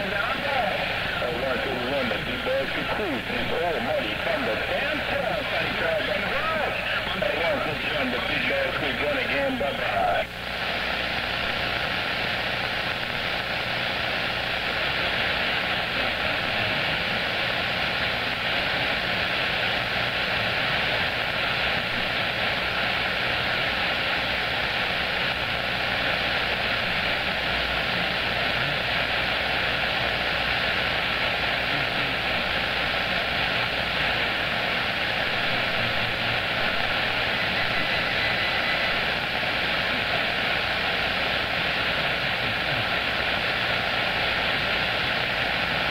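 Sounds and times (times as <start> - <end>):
radio static hiss: 0.0 - 45.9.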